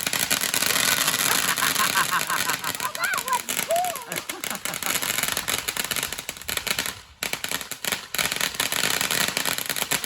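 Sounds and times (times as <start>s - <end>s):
firework fountain crackling and hissing: 0.0s - 10.0s.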